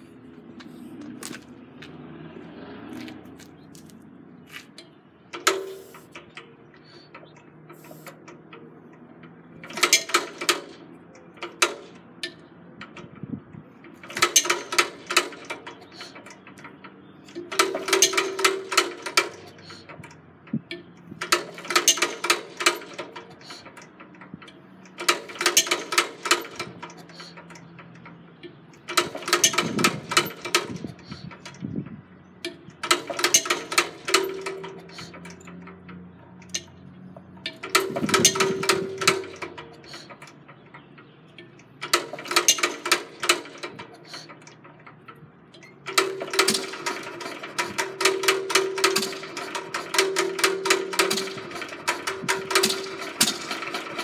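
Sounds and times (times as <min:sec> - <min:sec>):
flywheel rapid mechanical clicking: 0:05.3 - 0:31.7, 0:32.4 - 0:54.0.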